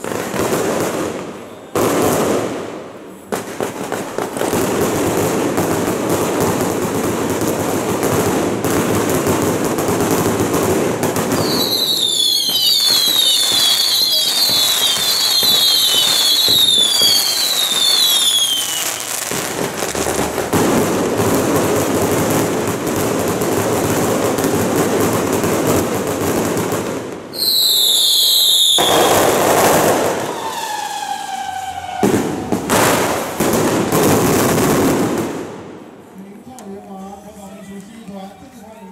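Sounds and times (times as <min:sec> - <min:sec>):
fireworks falling whistles: 0:00.0 - 0:25.8, 0:26.5 - 0:35.2
fireworks crackling barrage: 0:00.0 - 0:38.9.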